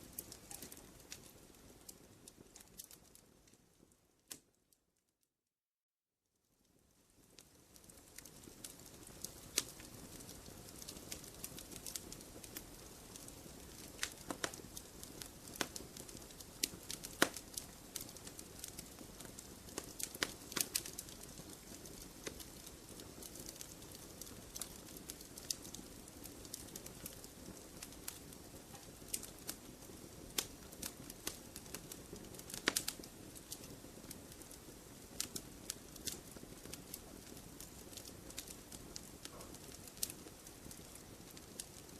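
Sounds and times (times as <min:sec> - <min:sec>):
burning wood crackling and popping: 0:00.0 - 0:04.6, 0:07.0 - 0:41.9
campfire flames rushing: 0:07.2 - 0:41.9.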